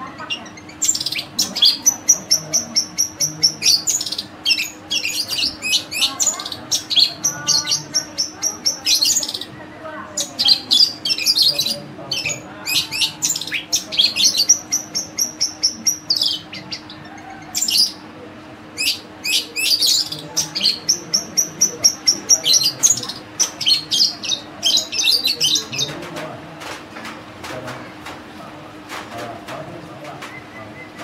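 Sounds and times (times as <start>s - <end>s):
shrike singing chattering song: 0.0s - 26.1s.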